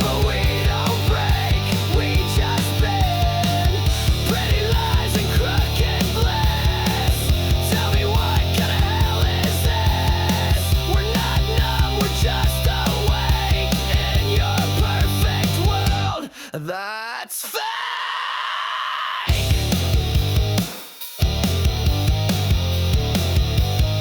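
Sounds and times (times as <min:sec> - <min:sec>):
grunge rock instrumental: 0:00.0 - 0:16.2, 0:19.3 - 0:24.0.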